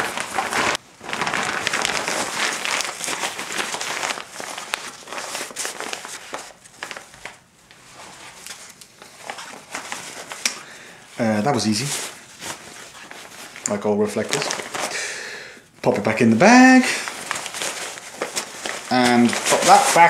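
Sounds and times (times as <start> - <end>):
fabric rustling and crinkling: 0.0 - 15.0, 15.9 - 20.0.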